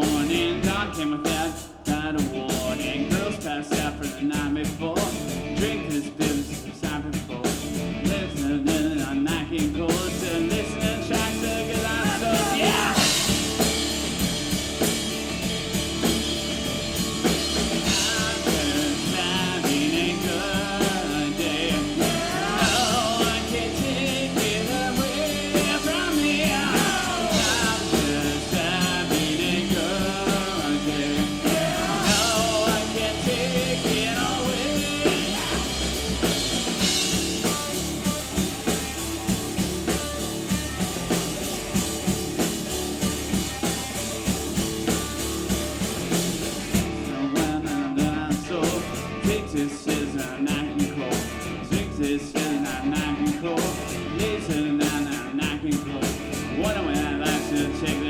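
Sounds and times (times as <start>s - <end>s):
person singing: 0.0s - 13.7s, 17.5s - 39.0s, 46.6s - 58.0s
drums: 0.0s - 58.0s
rock band playing: 0.0s - 58.0s.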